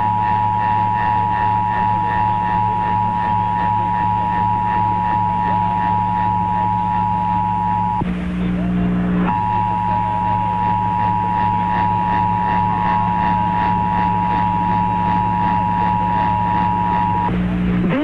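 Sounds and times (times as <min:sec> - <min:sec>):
radio hum and static: 0:00.0 - 0:18.0.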